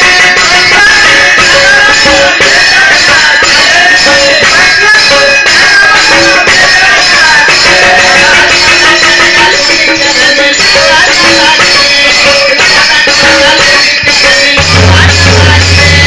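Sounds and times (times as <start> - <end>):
jingling tambourine beat: 0.0 - 16.0
melodic indian music: 0.0 - 16.0.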